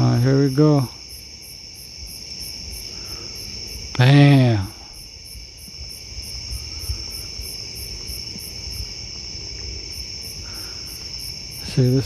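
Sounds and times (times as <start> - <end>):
insects trilling: 0.0 - 12.0
pulsing insect chirp: 0.0 - 12.0.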